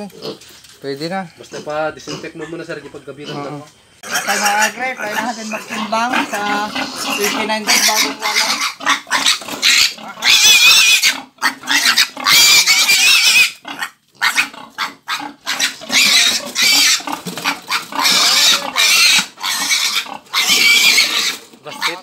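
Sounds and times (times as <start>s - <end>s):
piglet squealing: 1.5s - 22.0s.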